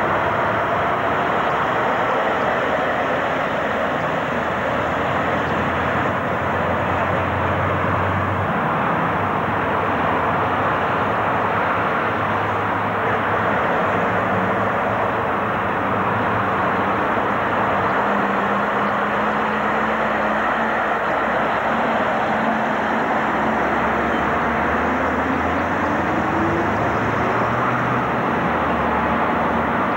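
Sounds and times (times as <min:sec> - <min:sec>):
lorry diesel engines running: 0:00.0 - 0:29.9.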